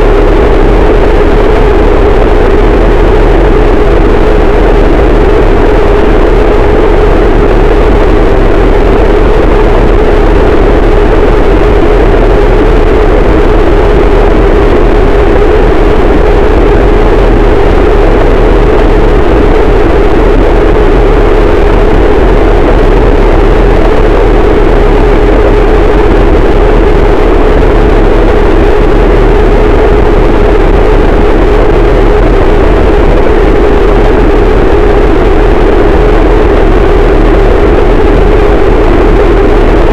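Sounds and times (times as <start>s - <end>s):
deep rumble: 0.0s - 39.9s
loud distorted static: 0.0s - 39.9s
steady hum: 0.0s - 39.9s.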